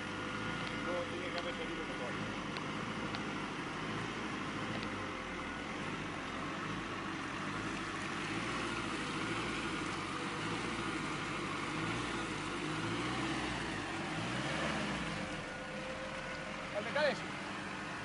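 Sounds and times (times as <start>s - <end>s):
diesel engine under load: 0.0s - 18.0s.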